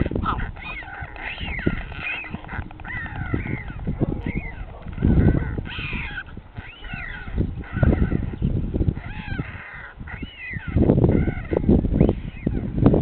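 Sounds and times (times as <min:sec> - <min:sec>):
stork chicks mewing calls: 0:00.0 - 0:12.7.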